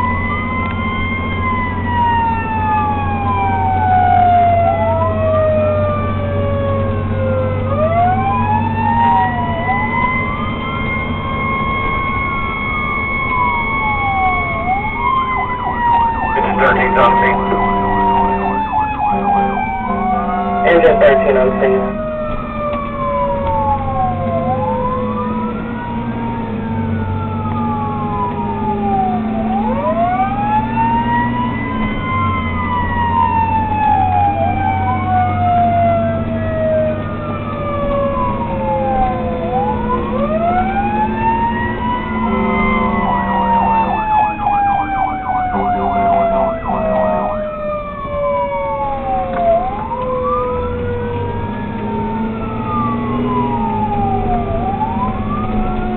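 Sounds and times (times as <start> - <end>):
fire engine sirens: 0.0 - 55.9
truck engine drone: 0.0 - 55.9.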